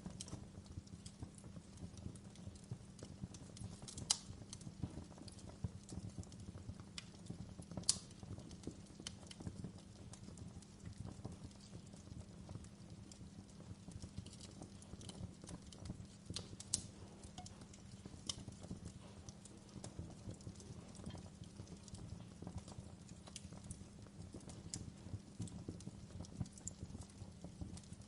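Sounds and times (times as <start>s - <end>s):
logs crackling and popping: 0.0s - 28.0s
low rumble of flames: 0.0s - 28.0s.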